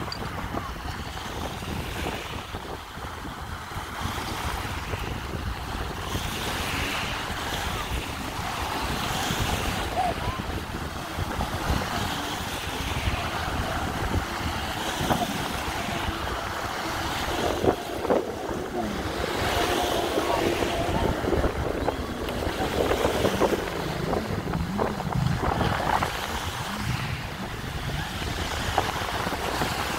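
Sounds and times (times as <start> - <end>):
jet ski engine running: 0.0 - 29.9
sea waves washing: 0.0 - 29.9
wind buffeting microphone: 0.0 - 29.9.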